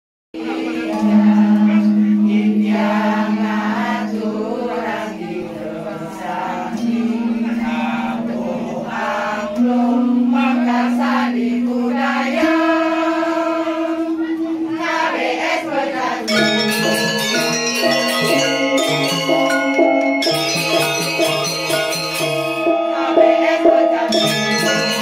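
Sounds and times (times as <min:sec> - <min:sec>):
metallophones struck with mallets: 0:00.6 - 0:25.0.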